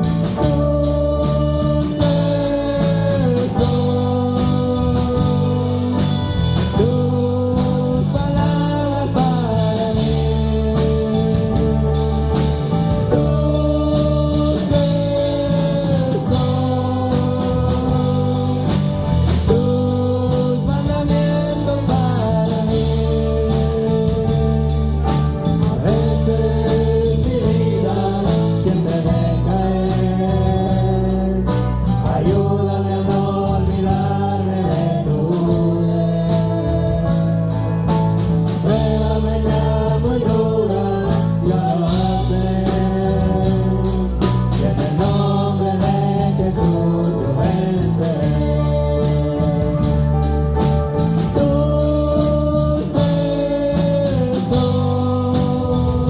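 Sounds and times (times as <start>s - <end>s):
bass and band: 0.0s - 56.0s
voices singing held notes: 0.0s - 56.0s.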